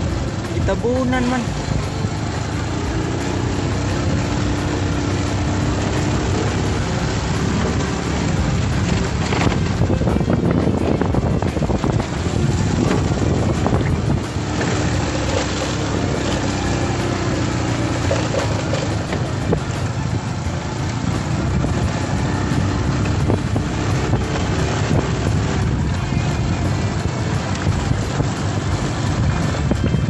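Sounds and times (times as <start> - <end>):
motorcycle engine: 0.0 - 30.0
wind on microphone: 0.0 - 30.0.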